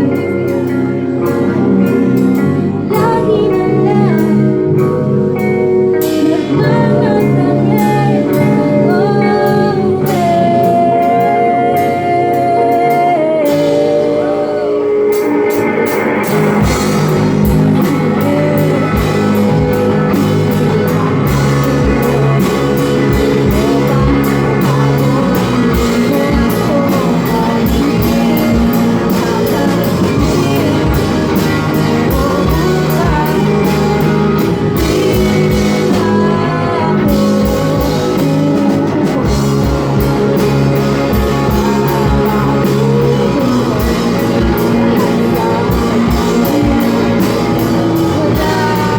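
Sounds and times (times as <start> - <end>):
drum kit: 0.0 - 48.9
electric guitar: 0.0 - 48.9
person singing: 0.0 - 48.9.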